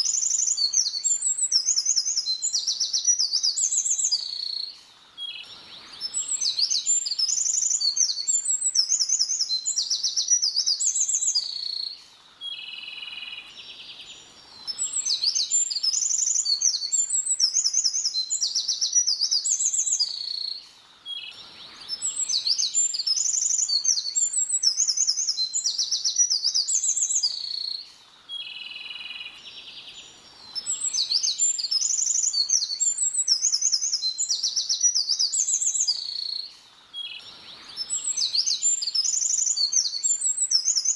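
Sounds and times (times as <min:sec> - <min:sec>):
small songbird singing: 0:00.0 - 0:40.9.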